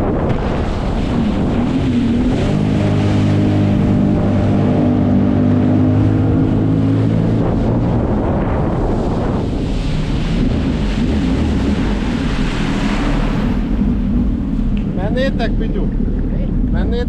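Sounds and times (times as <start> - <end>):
jet ski engine running: 0.0 - 17.0
water rushing: 0.0 - 17.0
wind on microphone: 0.0 - 17.0.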